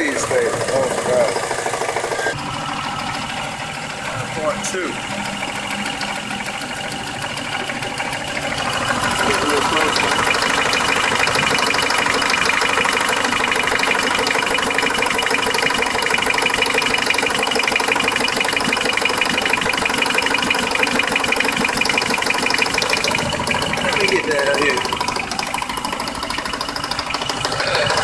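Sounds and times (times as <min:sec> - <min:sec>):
car engine running: 0:00.0 - 0:28.0
rapid engine ticking: 0:00.0 - 0:28.0.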